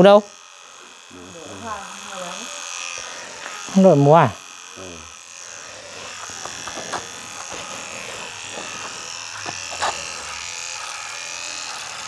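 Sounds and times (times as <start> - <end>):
electric hair clippers running: 0.0 - 12.0.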